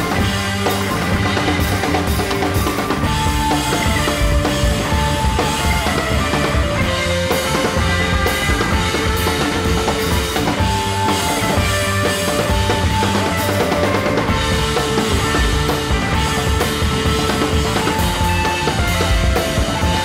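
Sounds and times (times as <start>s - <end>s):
rock music with drum beat: 0.0s - 20.0s.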